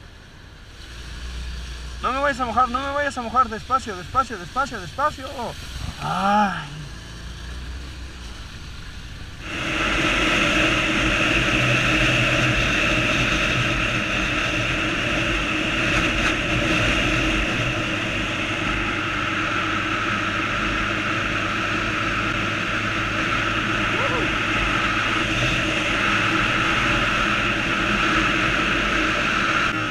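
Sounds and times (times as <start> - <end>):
motorcycle engine cruising: 0.6 - 29.9.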